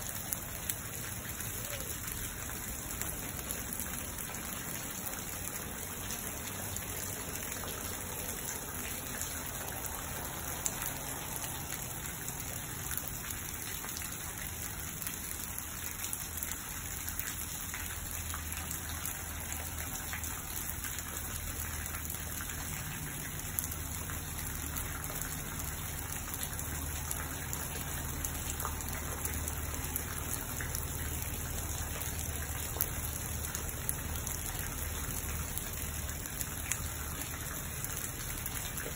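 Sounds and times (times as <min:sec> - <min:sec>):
rain on leaves and lawn: 0:00.0 - 0:38.9.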